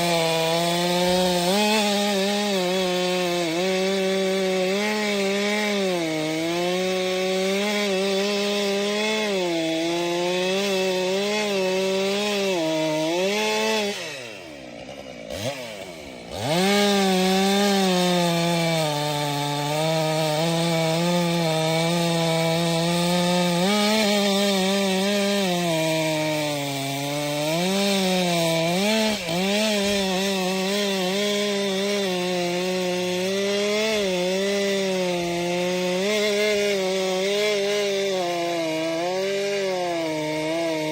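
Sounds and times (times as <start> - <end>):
chainsaw cutting firewood: 0.0 - 40.9.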